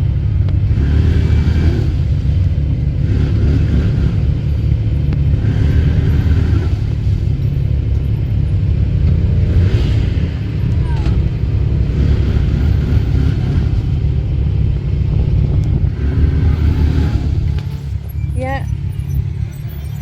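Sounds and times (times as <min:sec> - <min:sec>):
atv engines rumbling: 0:00.0 - 0:20.0.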